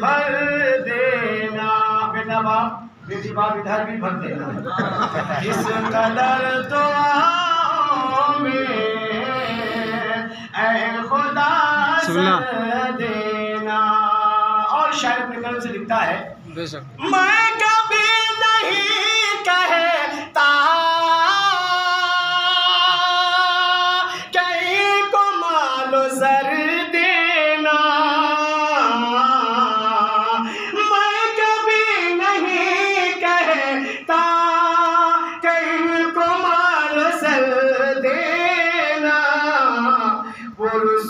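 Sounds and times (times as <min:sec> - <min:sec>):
man singing unaccompanied: 0:00.0 - 0:04.4, 0:05.4 - 0:16.4, 0:17.0 - 0:41.0.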